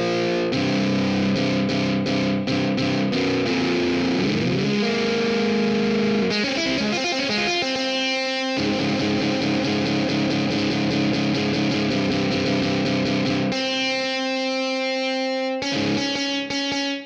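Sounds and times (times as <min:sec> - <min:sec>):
distorted electric guitar notes: 0:00.0 - 0:17.0.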